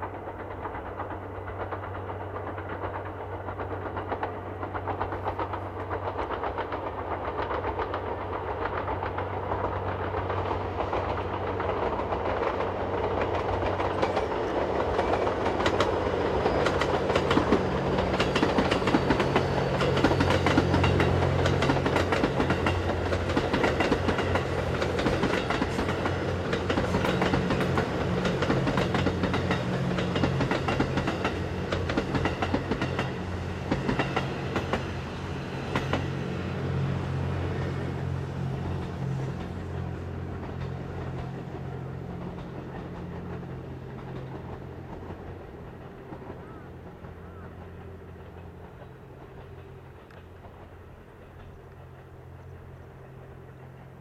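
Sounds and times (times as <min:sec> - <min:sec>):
train running past: 0:00.0 - 0:54.0
wheels clicking over rail joints: 0:00.0 - 0:54.0.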